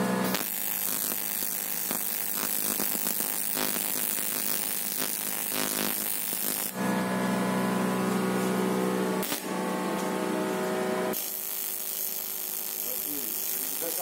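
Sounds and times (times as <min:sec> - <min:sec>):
welding arc buzzing: 0:00.0 - 0:14.0.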